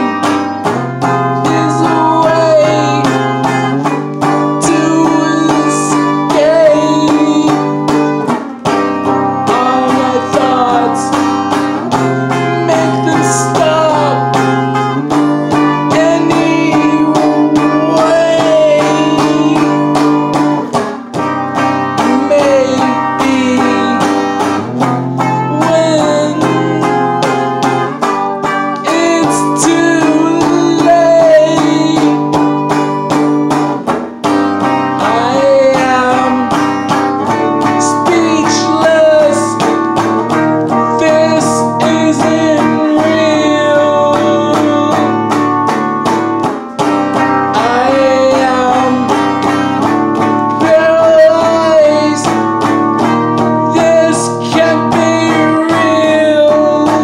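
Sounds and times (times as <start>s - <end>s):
electric guitar: 0.0s - 57.0s
man singing: 0.0s - 57.0s.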